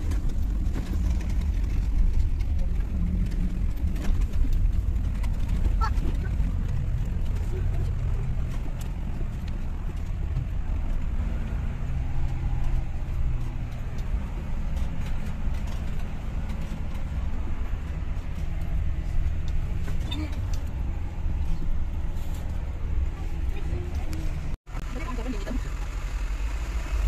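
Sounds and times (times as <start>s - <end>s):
vehicle engine rumbling under load: 0.0s - 27.0s.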